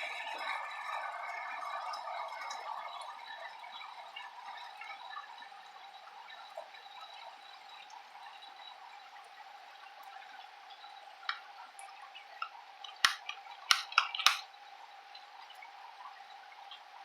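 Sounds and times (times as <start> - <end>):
raindrops ticking close by: 1.6 - 17.0.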